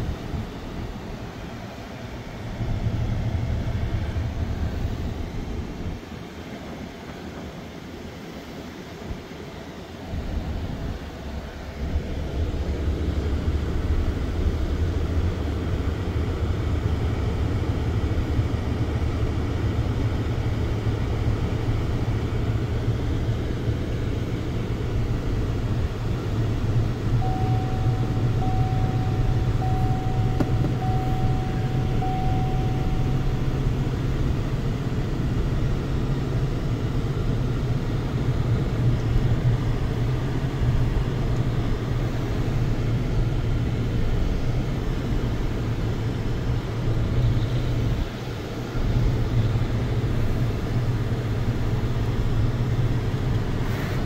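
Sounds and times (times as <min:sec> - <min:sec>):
road noise: 0:00.0 - 0:54.0
truck engine rumble: 0:00.0 - 0:54.0.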